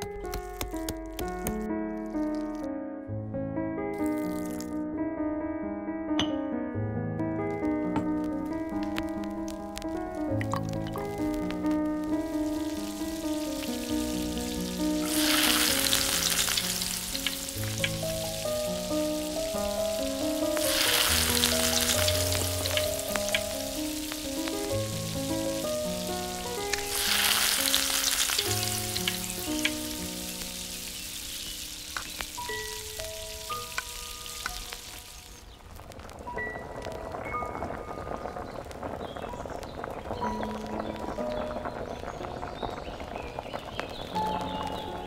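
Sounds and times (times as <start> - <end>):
hot oil sizzling: 0.0 - 2.7, 4.0 - 4.8, 7.4 - 45.0
background music with melody: 0.0 - 38.8, 43.6 - 45.0.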